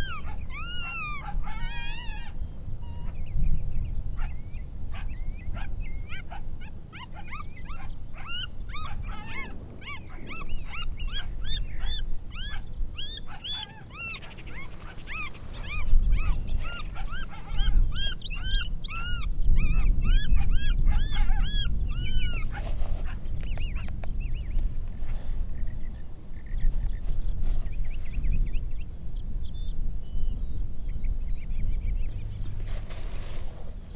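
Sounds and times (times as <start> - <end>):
coyotes yipping: 0.0 - 30.4.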